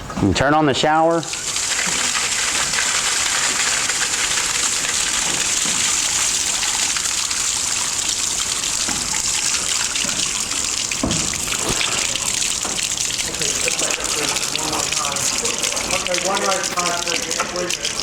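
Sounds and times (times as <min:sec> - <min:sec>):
shower water spraying: 0:01.2 - 0:18.0.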